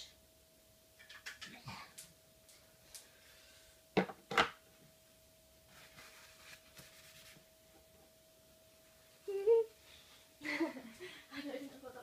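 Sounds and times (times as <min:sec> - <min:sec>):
faint steady tone: 0:01.7 - 0:12.0.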